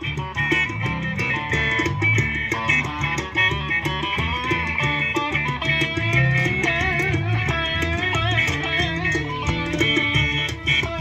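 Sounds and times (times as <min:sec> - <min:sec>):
electric guitar bent lead notes: 0:00.0 - 0:11.0
live band playing: 0:00.0 - 0:11.0.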